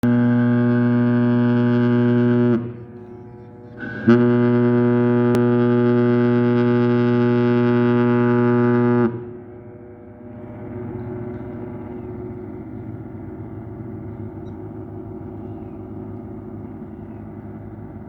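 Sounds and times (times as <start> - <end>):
ship horn blasts: 0.0 - 18.0.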